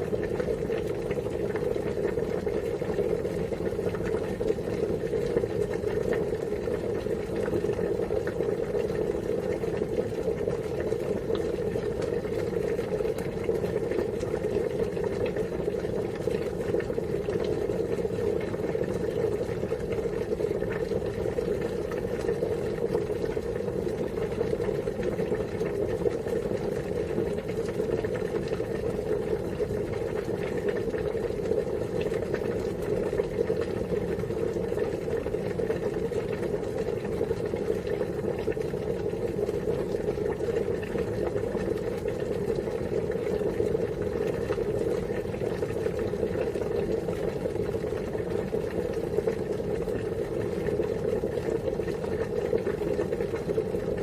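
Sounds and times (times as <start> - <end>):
water boiling: 0.0 - 54.0.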